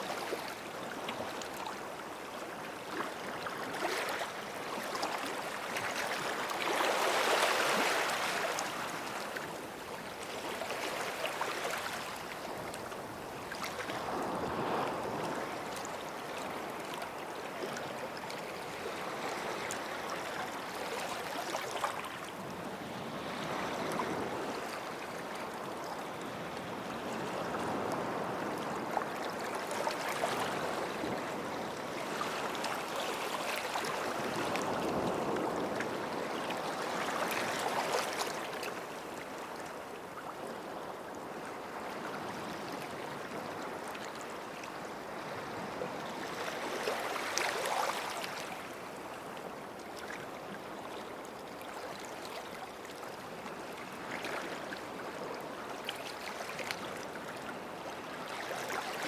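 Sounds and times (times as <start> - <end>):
waves breaking on beach: 0.0 - 49.4.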